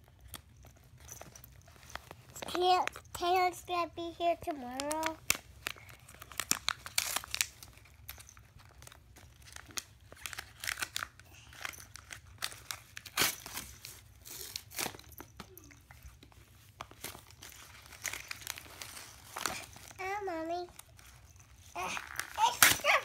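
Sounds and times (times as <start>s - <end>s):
gift wrap crinkling and tearing: 0.0s - 23.0s.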